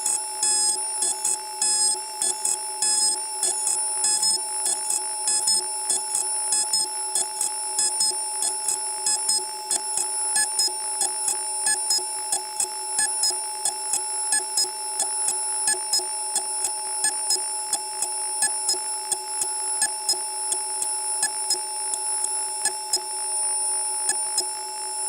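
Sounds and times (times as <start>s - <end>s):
milling machine high-pitched whine: 0.0s - 25.0s.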